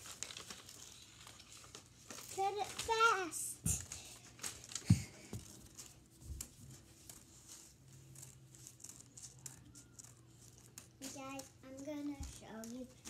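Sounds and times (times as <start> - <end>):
faint paper rustling: 0.0 - 13.0.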